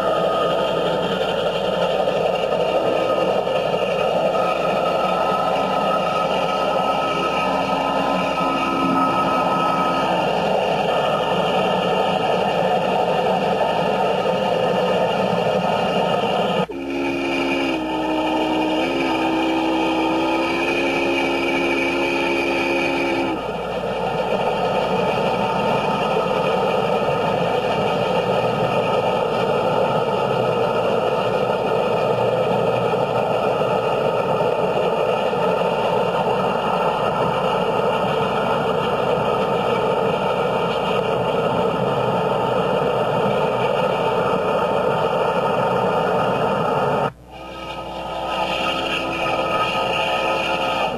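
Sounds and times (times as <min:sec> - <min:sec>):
rushing noise of moving train: 0:00.0 - 0:50.9
steam locomotive chime whistle: 0:00.0 - 0:50.9.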